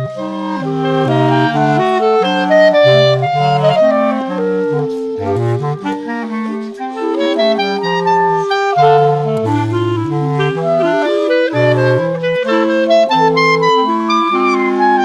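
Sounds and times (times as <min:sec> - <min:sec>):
clarinet quartet playing: 0:00.0 - 0:15.0.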